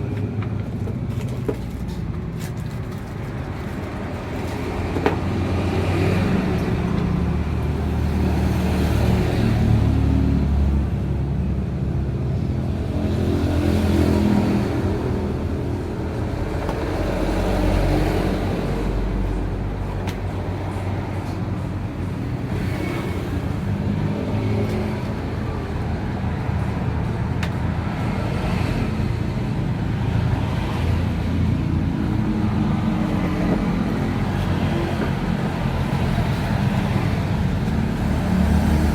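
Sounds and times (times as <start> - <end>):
traffic engines droning: 0.0 - 38.9.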